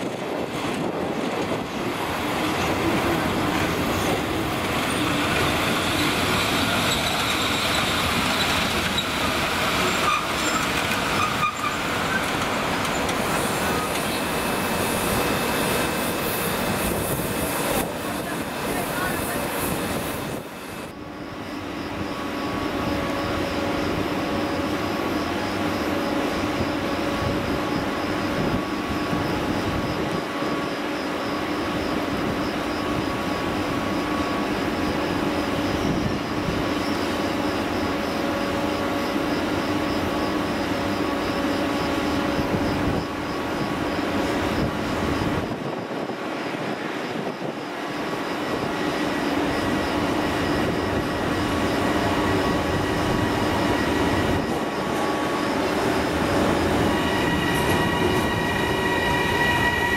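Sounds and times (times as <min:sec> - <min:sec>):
electric locomotive whine: 0:00.0 - 0:59.9
train rumble: 0:00.0 - 0:59.9.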